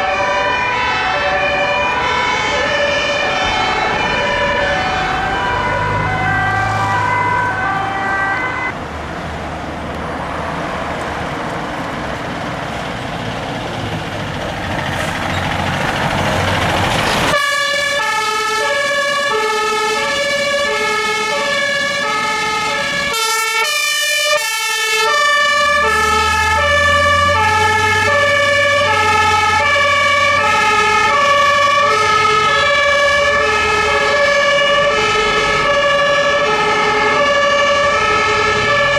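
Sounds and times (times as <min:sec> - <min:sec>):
fire engine two-tone siren: 0:00.0 - 0:08.8, 0:14.8 - 0:38.9
truck engine: 0:00.0 - 0:38.9.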